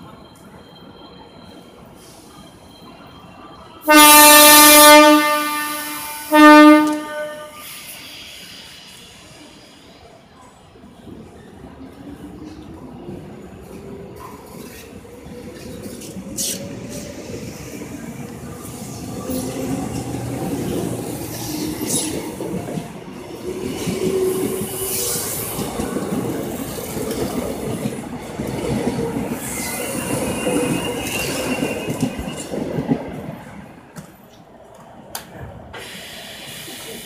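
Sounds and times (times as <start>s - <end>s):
electric train running on track: 0.0s - 37.0s.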